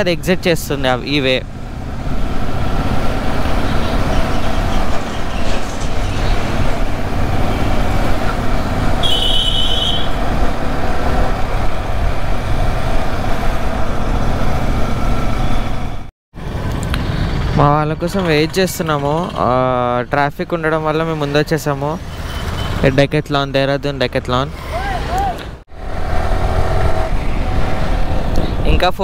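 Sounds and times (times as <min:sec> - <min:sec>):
motorcycle engine and road noise: 0:00.0 - 0:29.0.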